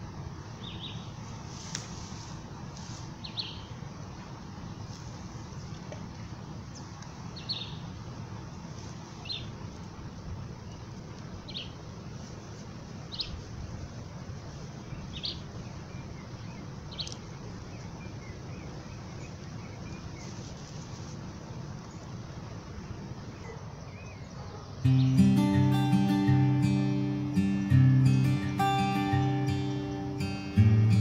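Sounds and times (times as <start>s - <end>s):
low background noise: 0.0s - 31.0s.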